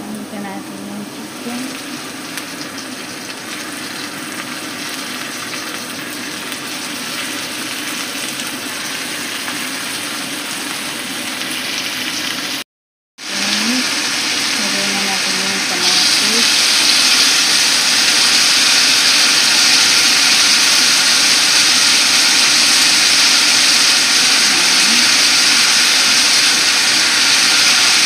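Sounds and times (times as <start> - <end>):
chicken and onions sizzling in oil: 0.0 - 12.6, 13.2 - 28.0.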